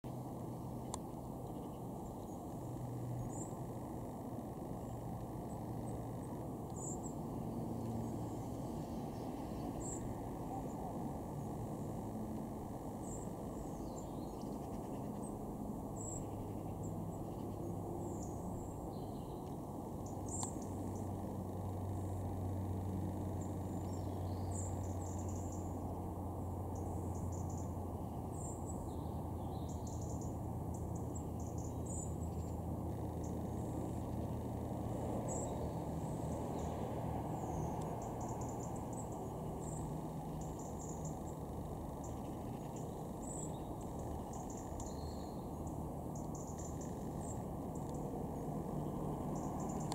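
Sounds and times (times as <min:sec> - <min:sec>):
small birds chirping: 0:00.0 - 0:49.9
low drone: 0:00.1 - 0:49.9
steady low rumble: 0:00.1 - 0:49.9.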